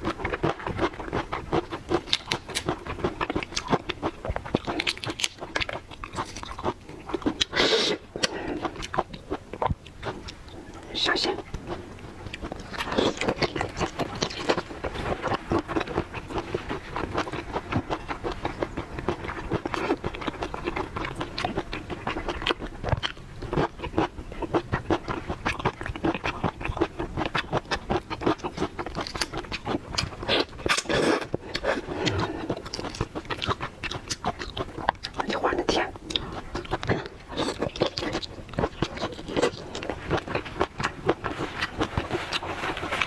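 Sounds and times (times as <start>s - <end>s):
person chewing shrimp crackling: 0.0s - 43.0s.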